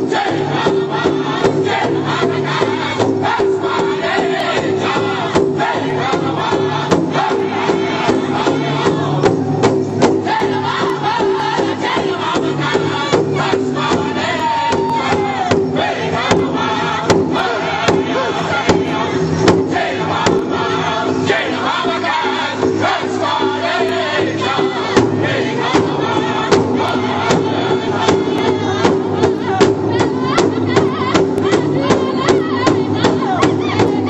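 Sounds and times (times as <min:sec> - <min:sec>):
large drum beaten with sticks: 0:00.0 - 0:34.0
men singing in unison: 0:00.0 - 0:34.0.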